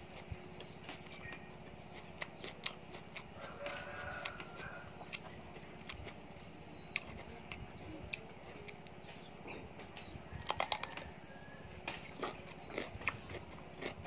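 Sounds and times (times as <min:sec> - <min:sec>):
teeth crunching raw vegetable: 0:00.0 - 0:08.9, 0:09.9 - 0:11.2, 0:11.8 - 0:14.0
chewing clicks: 0:00.1 - 0:09.0, 0:10.4 - 0:11.1, 0:11.9 - 0:14.0.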